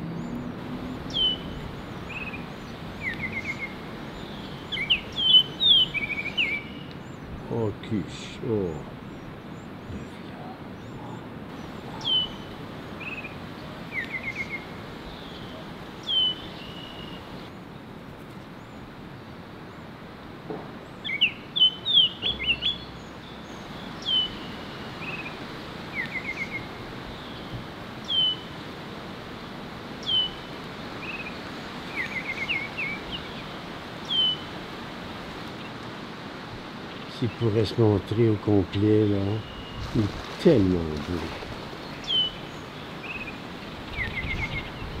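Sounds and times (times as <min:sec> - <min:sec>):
steady background hiss: 0:00.0 - 0:45.0.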